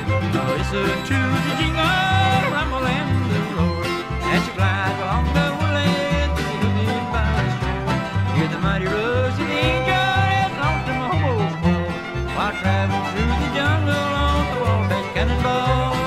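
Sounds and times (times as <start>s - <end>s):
banjo: 0.0s - 16.0s
bluegrass band playing: 0.0s - 16.0s
sliding melody line: 0.0s - 16.0s.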